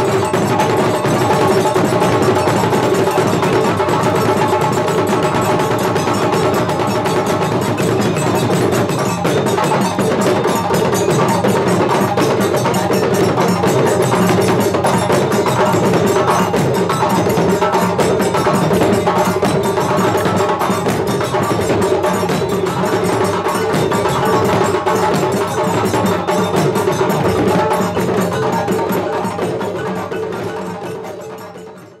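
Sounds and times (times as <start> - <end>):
drum ensemble playing: 0.0 - 31.4.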